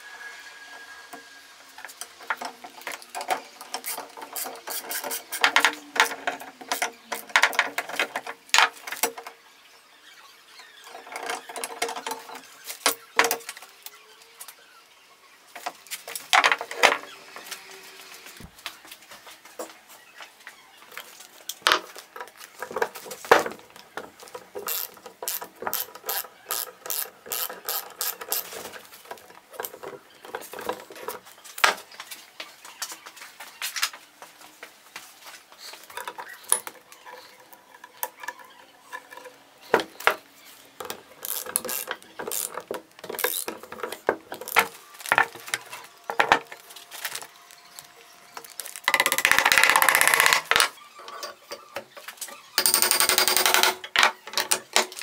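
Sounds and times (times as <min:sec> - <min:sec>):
continuous scraping noise: 0:00.0 - 0:52.6.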